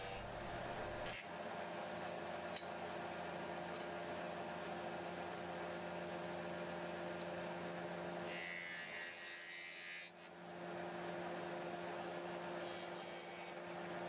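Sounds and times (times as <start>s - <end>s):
woodworking machine humming: 0.0s - 14.0s.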